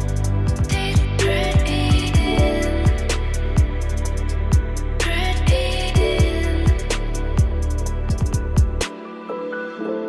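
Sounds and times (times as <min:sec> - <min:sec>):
sustained bass: 0:00.0 - 0:08.9.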